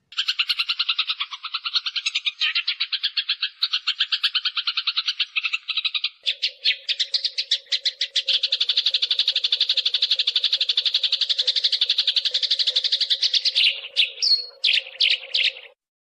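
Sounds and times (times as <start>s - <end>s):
sparrows chirping: 0.0s - 15.8s.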